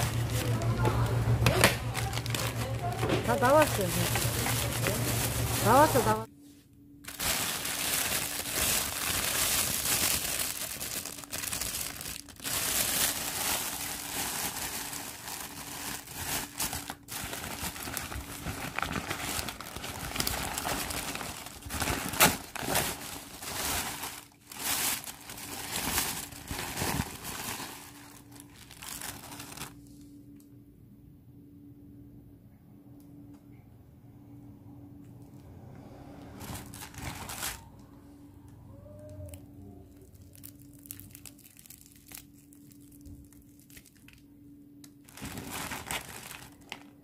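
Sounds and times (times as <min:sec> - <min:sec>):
packaging crinkling and rustling: 0:00.0 - 0:06.3, 0:07.0 - 0:30.1, 0:36.3 - 0:38.0, 0:39.9 - 0:47.0.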